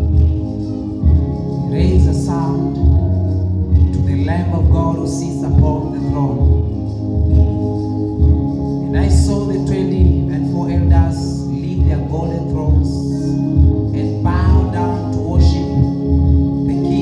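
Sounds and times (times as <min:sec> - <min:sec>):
person singing: 0:00.0 - 0:06.9, 0:08.3 - 0:17.0
held keyboard chords: 0:00.0 - 0:17.0
steady low beat: 0:00.0 - 0:17.0.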